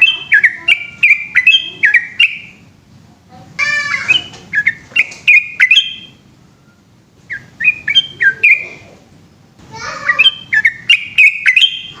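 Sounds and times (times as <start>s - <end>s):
bird singing warbled phrases: 0.0s - 2.8s, 3.5s - 12.0s.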